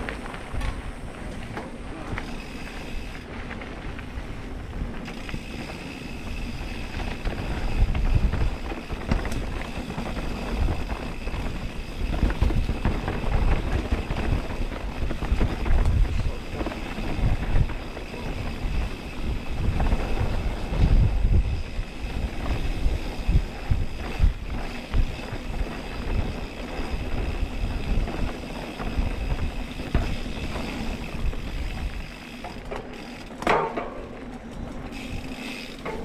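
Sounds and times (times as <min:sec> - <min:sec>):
wind buffeting microphone: 0:00.0 - 0:33.2
bike rattling over rough ground: 0:00.0 - 0:36.0.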